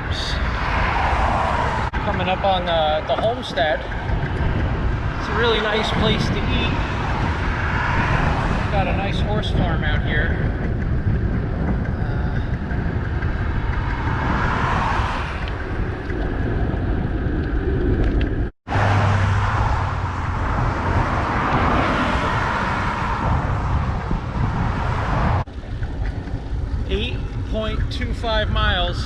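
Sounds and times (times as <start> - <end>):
road traffic passing: 0.0 - 29.0
wind rushing over microphone: 0.0 - 29.0.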